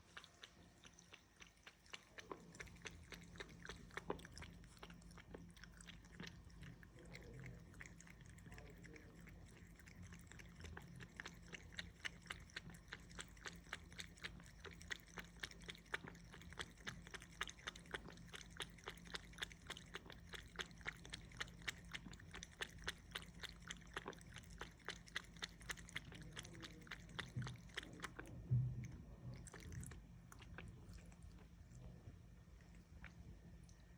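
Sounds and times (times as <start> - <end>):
cat lapping water: 0.0 - 33.9.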